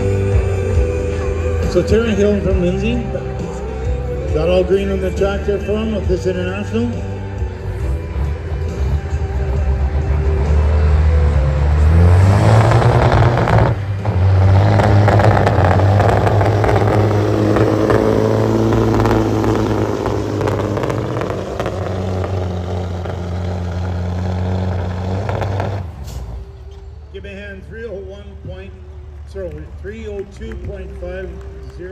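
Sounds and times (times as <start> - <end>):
truck diesel engine at full throttle: 0.0 - 31.9.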